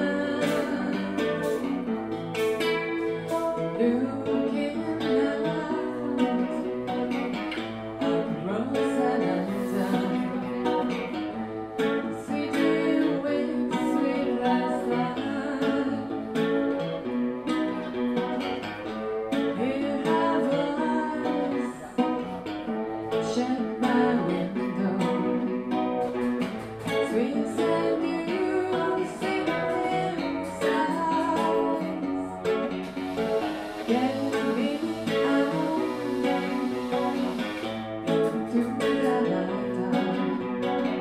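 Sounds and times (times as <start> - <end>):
acoustic guitar: 0.0 - 41.0
person singing: 0.0 - 41.0.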